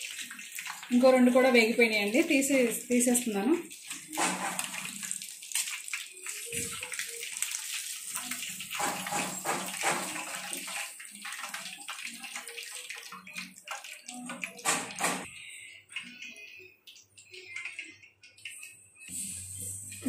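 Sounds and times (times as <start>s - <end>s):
oil sizzling and popping: 0.0s - 20.0s.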